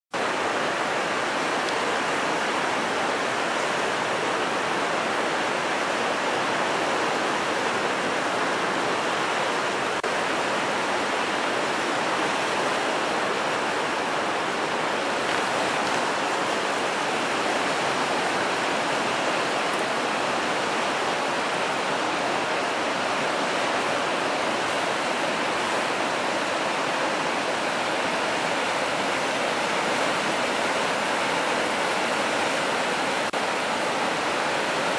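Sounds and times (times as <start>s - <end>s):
river rushing through rapids: 0.2s - 34.9s.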